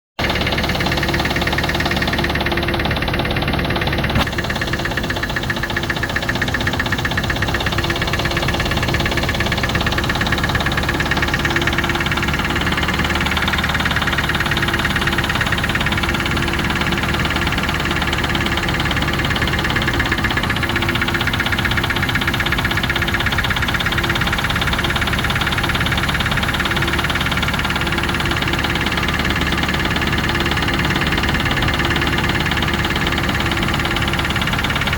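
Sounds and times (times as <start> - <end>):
engine idling: 0.1 - 34.9
fast regular engine knock: 0.2 - 34.9.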